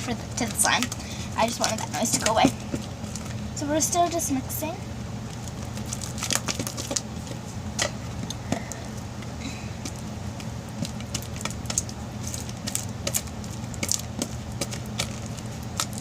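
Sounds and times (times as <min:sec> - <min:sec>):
spatula stirring slime in bowl: 0:00.0 - 0:03.5, 0:05.2 - 0:09.0, 0:09.8 - 0:16.0
steady low hum: 0:00.0 - 0:16.0.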